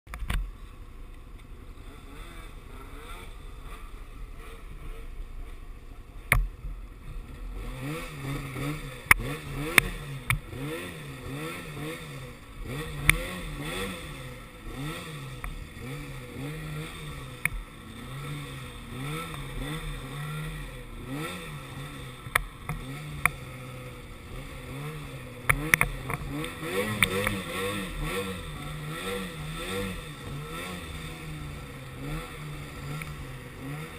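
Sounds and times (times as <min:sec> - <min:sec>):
snowmobile engine revving: 0:01.7 - 0:33.9.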